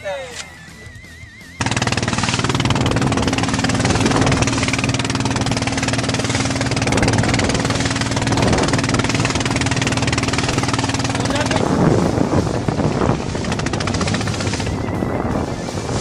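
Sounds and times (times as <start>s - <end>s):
boat engine running steadily: 0.3s - 16.0s.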